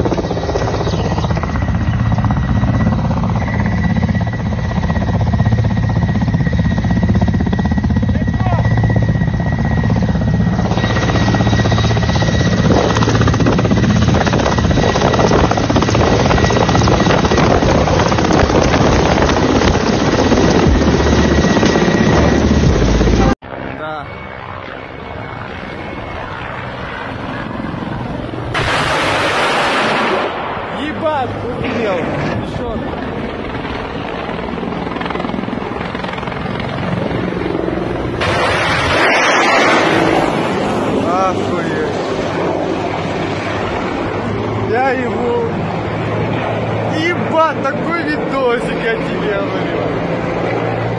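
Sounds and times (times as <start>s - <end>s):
helicopter rotor noise: 0.0s - 50.9s
turbine engine whine: 0.0s - 50.9s.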